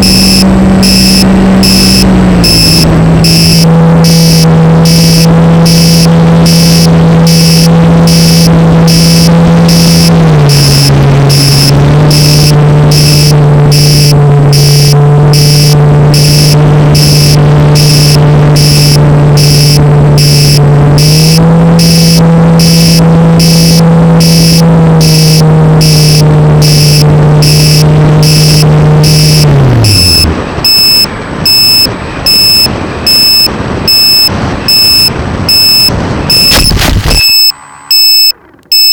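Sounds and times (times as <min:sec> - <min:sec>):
electric motor and propeller whirring: 0:00.0 - 0:38.8
beeper beeping: 0:00.0 - 0:38.9.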